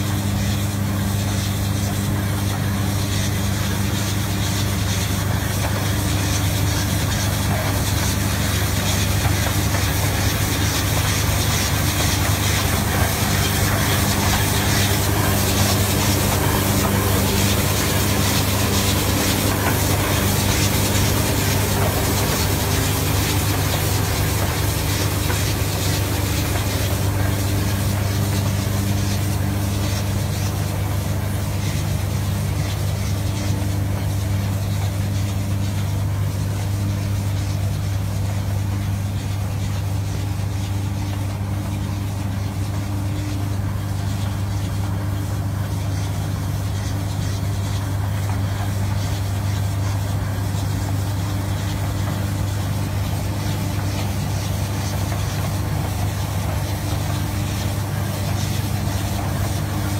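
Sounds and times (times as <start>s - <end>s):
brick-making machine running: 0.0s - 59.9s.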